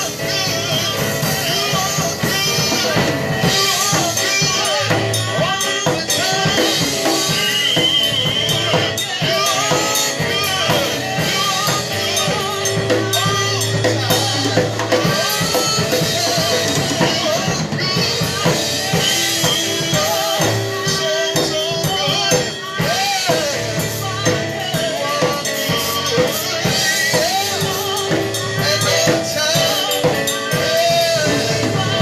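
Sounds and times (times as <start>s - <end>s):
drum kit steady beat: 0.0s - 32.0s.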